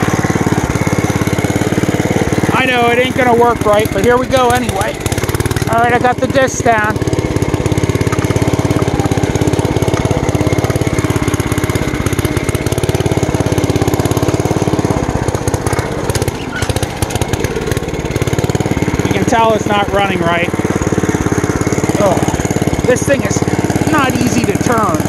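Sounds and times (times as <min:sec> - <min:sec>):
tractor engine running under load: 0:00.0 - 0:25.0.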